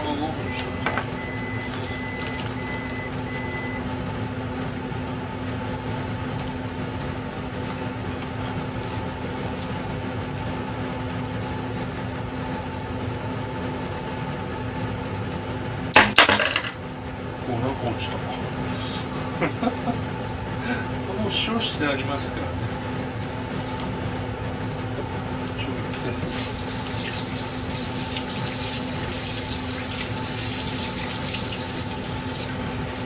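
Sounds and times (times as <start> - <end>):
kitchen background hum: 0.0 - 33.0.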